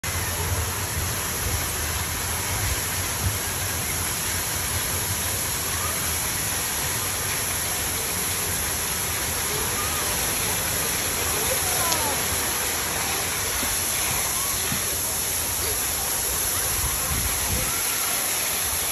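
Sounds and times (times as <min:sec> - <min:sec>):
faint distant voices: 0:00.0 - 0:18.9
water rushing: 0:00.0 - 0:18.9.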